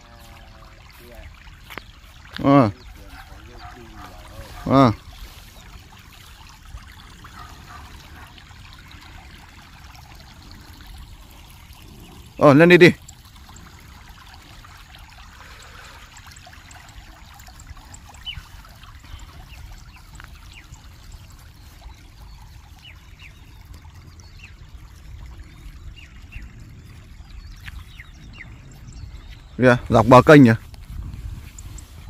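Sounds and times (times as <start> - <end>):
water trickling in canal: 0.0 - 32.0.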